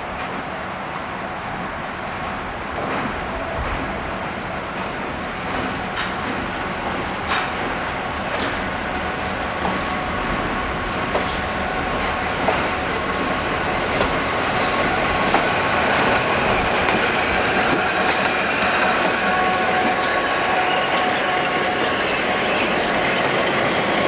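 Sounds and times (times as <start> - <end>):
diesel locomotive engine: 0.0 - 24.0
train wheels clicking on rails: 0.1 - 24.0.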